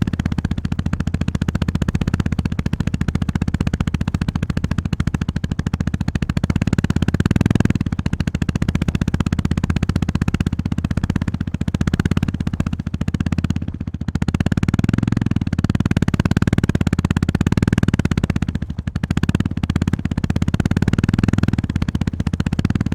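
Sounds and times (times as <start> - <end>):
motorcycle engine pulsing: 0.0 - 22.9.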